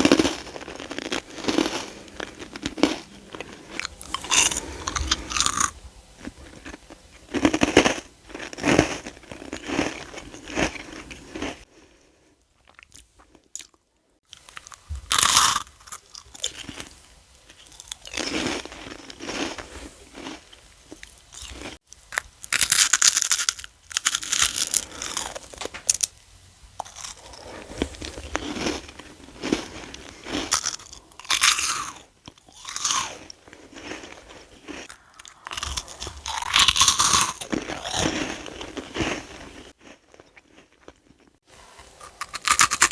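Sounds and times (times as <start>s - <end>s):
crunchy candy chewing: 0.0s - 11.7s, 12.6s - 26.1s, 26.8s - 42.9s.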